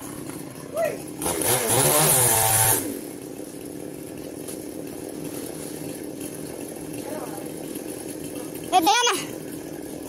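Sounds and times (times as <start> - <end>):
chainsaw running and idling: 0.0 - 10.0.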